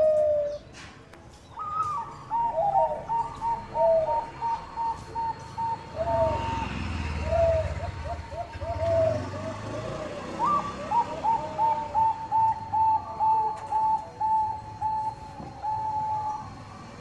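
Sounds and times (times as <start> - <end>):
dove cooing: 0.0 - 0.7, 1.6 - 17.0.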